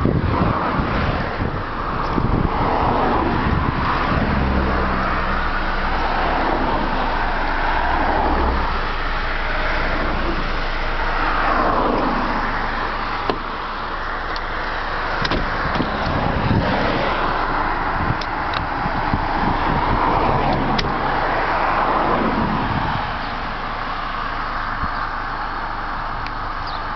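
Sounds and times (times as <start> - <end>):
vehicle passing close by: 0.0 - 25.4
road traffic: 0.0 - 26.9.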